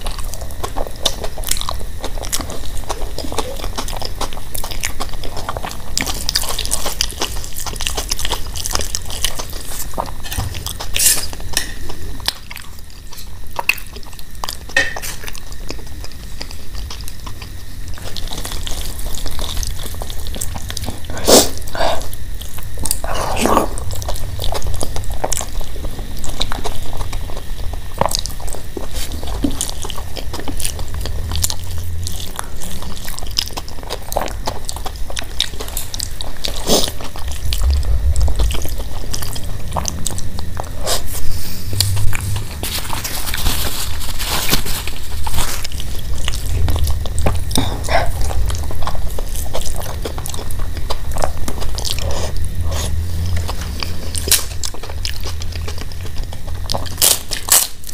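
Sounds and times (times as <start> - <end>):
steady low hum: 0.0 - 57.9
wet chewing and lip-smacking: 0.0 - 57.9.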